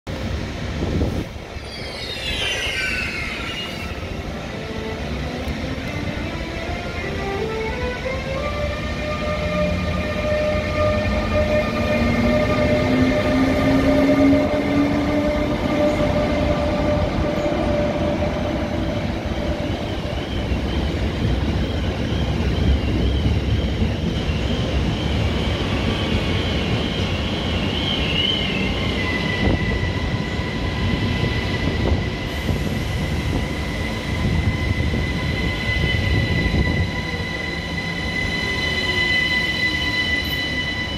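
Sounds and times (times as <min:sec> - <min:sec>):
electric locomotive whine: 0:00.1 - 0:40.9
train high whines: 0:00.1 - 0:40.9
wavering high squeal: 0:01.5 - 0:05.4, 0:06.2 - 0:40.9.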